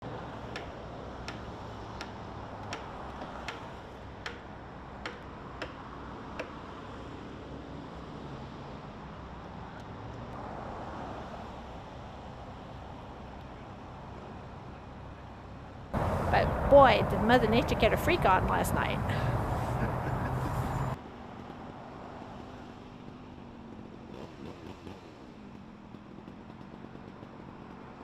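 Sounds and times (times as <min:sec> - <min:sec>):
outdoor background rumble: 0:00.0 - 0:28.0.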